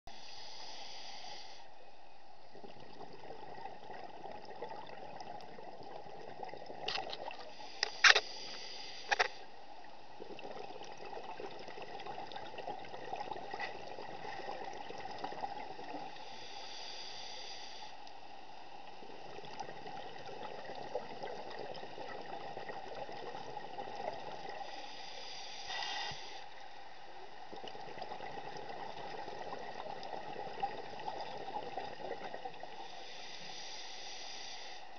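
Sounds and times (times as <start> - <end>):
muffled underwater hiss: 0.1 - 34.9
scuba exhaust bubbles: 2.5 - 9.2, 10.0 - 17.8, 18.7 - 34.9.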